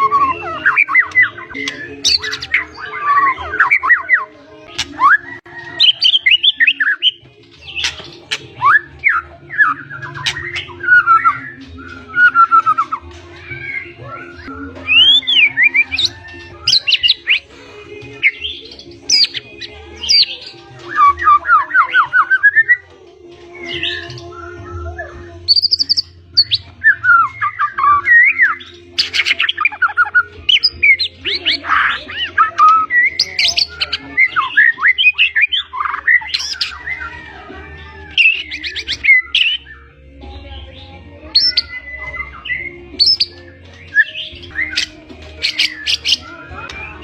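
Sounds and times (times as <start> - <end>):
bird singing varied song: 0.0 - 47.0.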